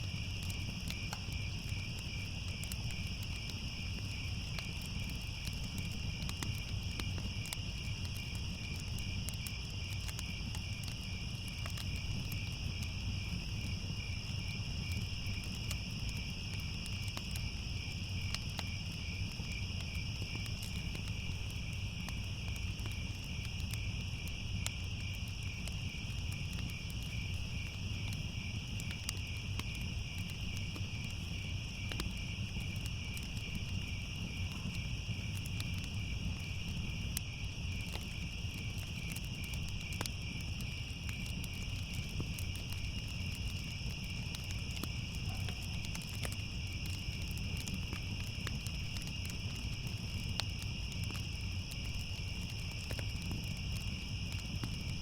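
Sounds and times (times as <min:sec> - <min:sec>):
crickets chirping: 0:00.0 - 0:55.0
low rumble with faint crackles: 0:00.0 - 0:55.0.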